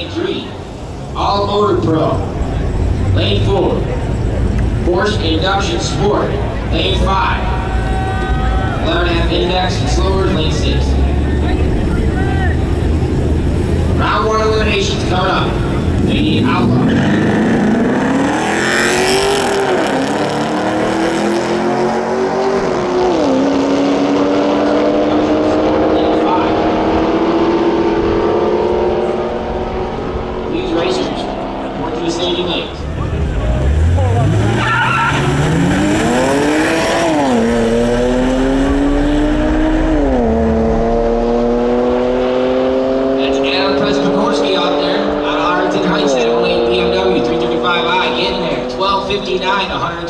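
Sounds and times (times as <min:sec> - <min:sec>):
cars accelerating hard: 0:00.0 - 0:50.0.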